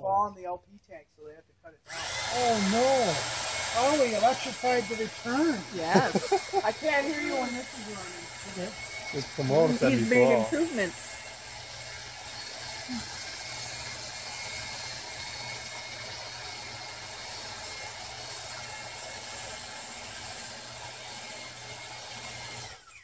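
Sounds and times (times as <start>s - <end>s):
electric winch humming: 1.9s - 23.0s.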